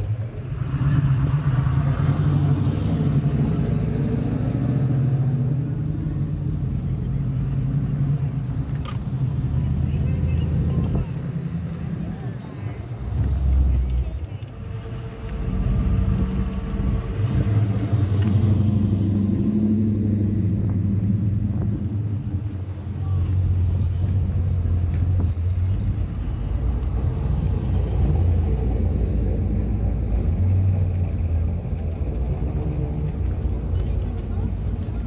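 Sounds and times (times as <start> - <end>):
car engines passing slowly: 0.0 - 35.0.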